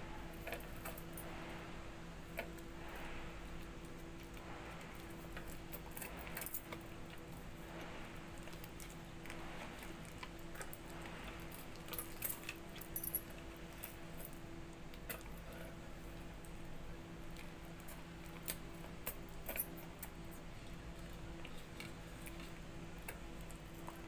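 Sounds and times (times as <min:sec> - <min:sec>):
faint steady hum: 0:00.0 - 0:24.0
soft chewing: 0:02.3 - 0:24.0.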